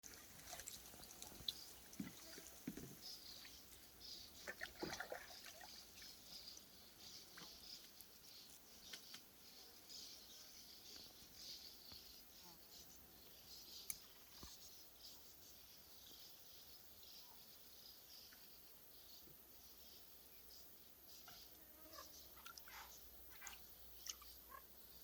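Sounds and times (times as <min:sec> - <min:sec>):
birds chirping: 0:00.1 - 0:25.0.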